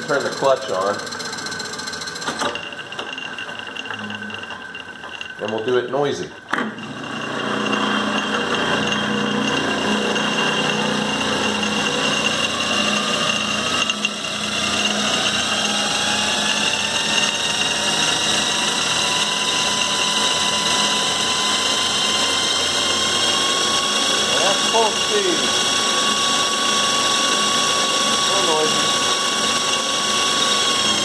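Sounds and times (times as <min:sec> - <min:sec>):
metal lathe running: 0:00.0 - 0:31.0.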